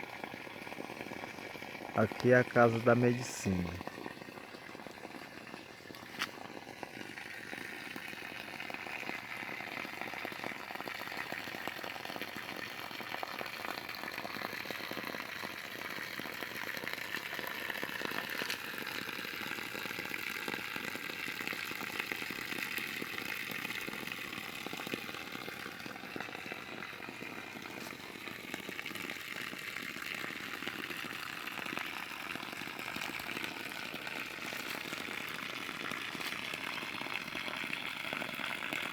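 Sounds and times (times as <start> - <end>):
water gushing: 0.0 - 38.9.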